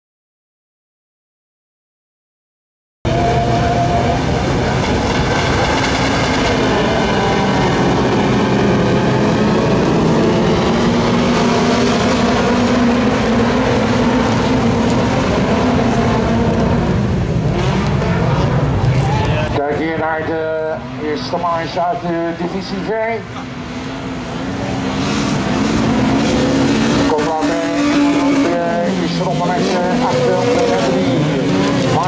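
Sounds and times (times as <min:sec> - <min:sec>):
race car engines revving: 0:03.1 - 0:32.0.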